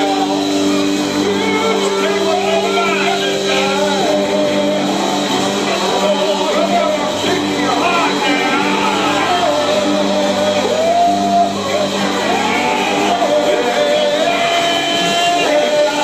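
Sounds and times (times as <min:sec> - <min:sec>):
electric guitar playing: 0:00.0 - 0:16.0
man singing: 0:00.0 - 0:16.0.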